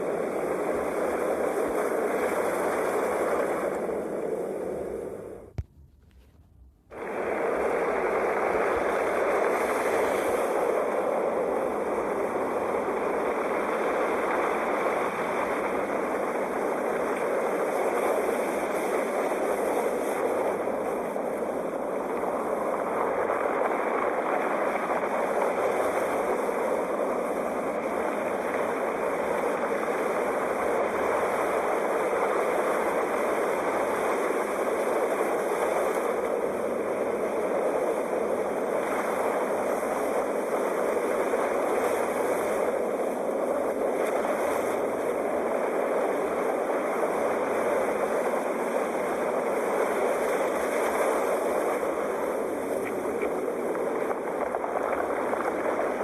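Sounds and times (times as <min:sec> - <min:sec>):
sea waves washing: 0:06.9 - 0:56.0.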